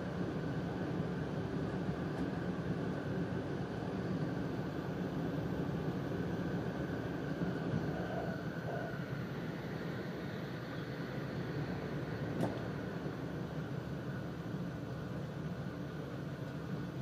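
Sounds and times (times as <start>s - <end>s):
faint steady hum: 0.0s - 17.0s
train wheels rumbling on track: 0.0s - 17.0s.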